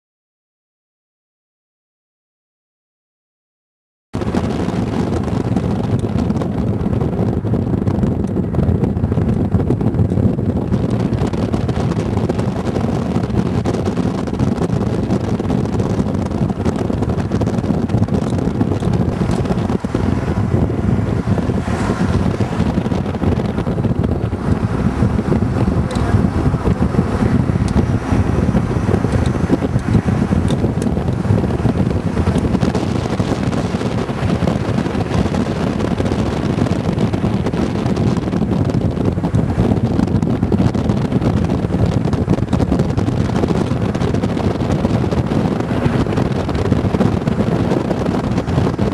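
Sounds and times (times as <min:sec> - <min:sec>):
moving car rumble: 0:04.2 - 0:48.9
wind buffeting microphone: 0:04.2 - 0:48.9.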